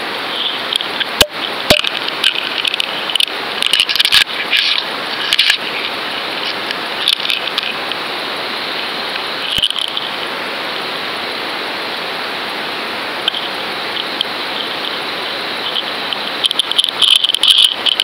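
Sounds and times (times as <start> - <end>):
underwater rushing water hiss: 0.0 - 18.0.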